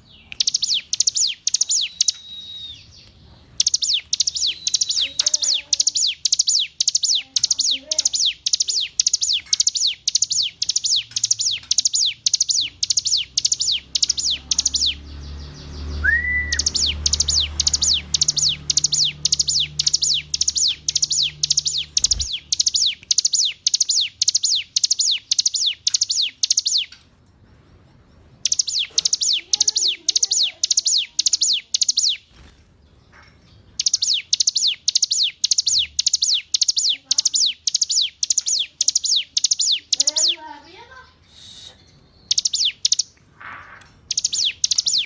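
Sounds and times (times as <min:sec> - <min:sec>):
bird singing high sharp notes: 0:00.0 - 0:27.0, 0:28.4 - 0:32.5, 0:33.7 - 0:43.2, 0:44.0 - 0:45.0.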